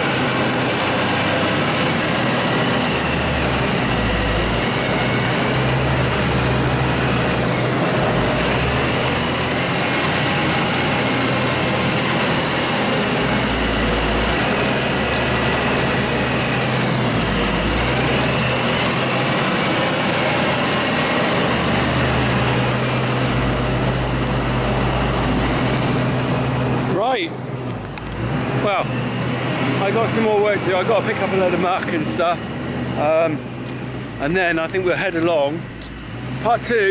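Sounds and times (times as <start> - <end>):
vehicle engine running: 0.0 - 36.9.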